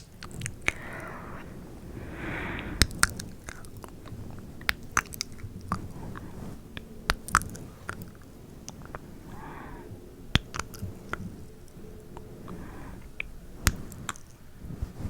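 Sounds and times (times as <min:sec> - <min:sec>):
soft breathy hiss: 0:00.0 - 0:15.0.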